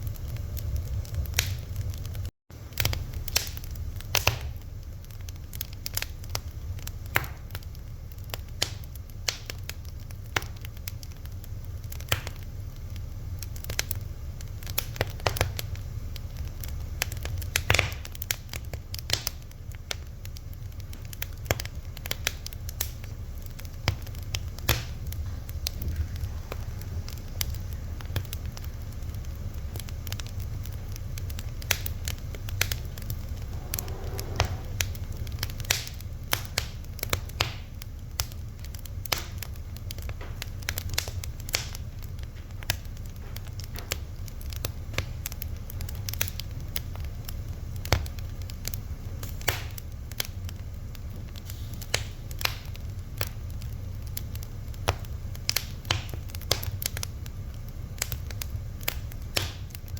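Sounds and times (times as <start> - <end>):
wood fire crackling: 0.0 - 59.9
faint hiss: 2.6 - 59.8.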